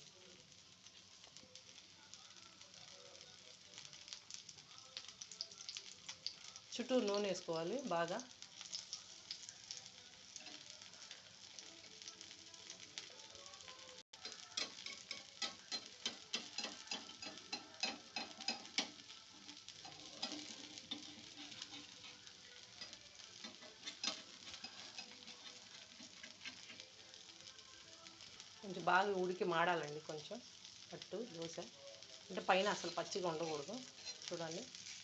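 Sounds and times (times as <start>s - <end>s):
oil sizzling and popping in a pan: 0.0s - 35.0s.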